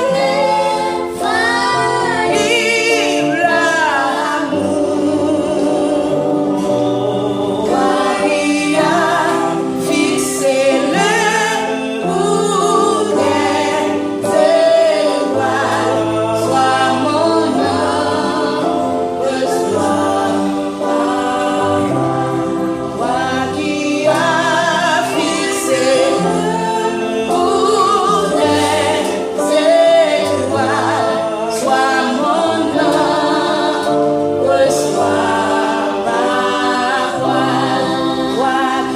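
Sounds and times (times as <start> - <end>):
children singing a gospel song: 0.0 - 38.9.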